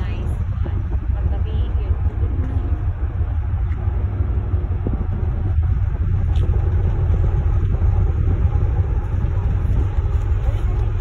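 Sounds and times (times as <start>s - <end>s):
ship engine drone: 0.0s - 11.0s
wind on microphone: 0.0s - 11.0s.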